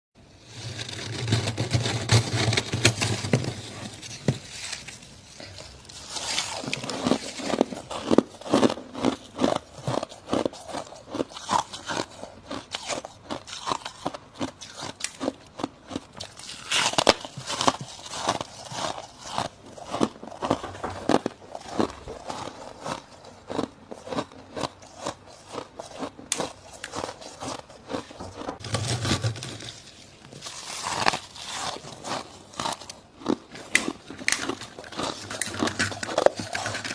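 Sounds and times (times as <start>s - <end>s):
frost being chewed: 3.6s - 28.6s, 29.7s - 36.9s.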